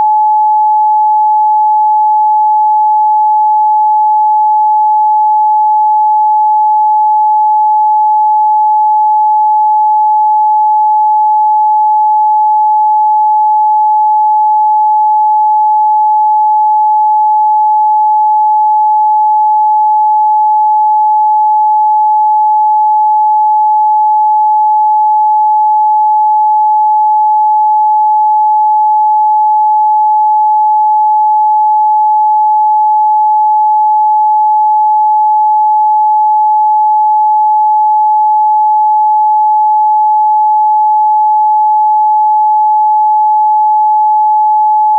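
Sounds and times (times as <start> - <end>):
sine-wave test tone: 0.0 - 44.9.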